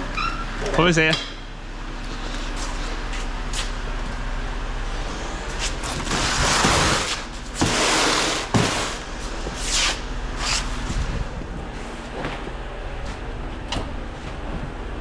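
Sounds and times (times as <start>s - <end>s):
truck engine humming: 1.4s - 15.0s.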